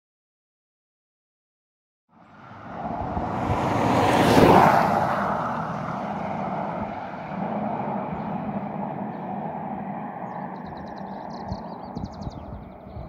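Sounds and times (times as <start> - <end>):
car road and wind noise: 2.1 - 13.0.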